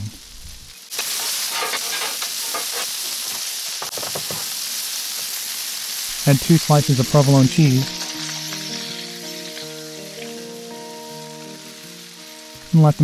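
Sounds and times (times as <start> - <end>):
meat sizzling on griddle: 0.2 - 13.0.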